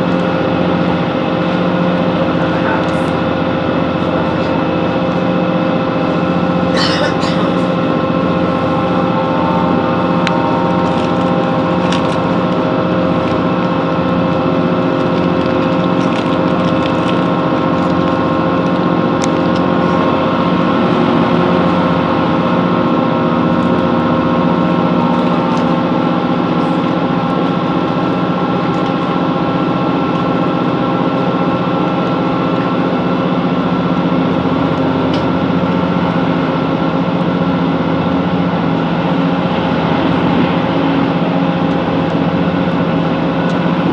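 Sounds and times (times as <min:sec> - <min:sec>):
train diesel engine drone: 0:00.0 - 0:43.9.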